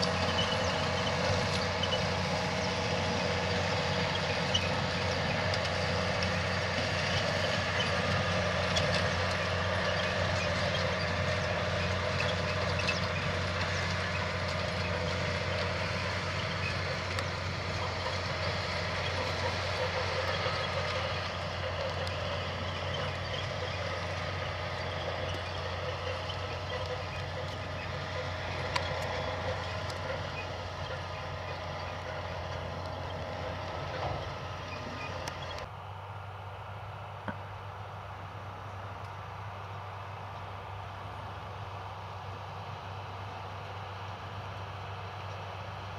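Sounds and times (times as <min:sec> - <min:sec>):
machinery noise: 0:00.0 - 0:45.9
tractor diesel engine running: 0:00.0 - 0:45.9.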